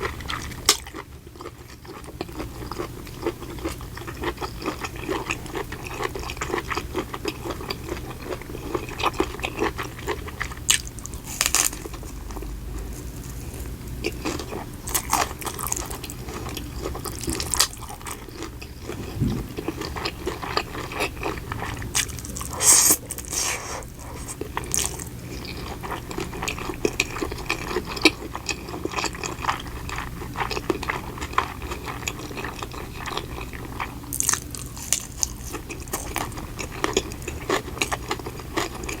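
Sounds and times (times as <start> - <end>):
faint low hum: 0.0 - 39.0
person chewing food: 0.0 - 39.0.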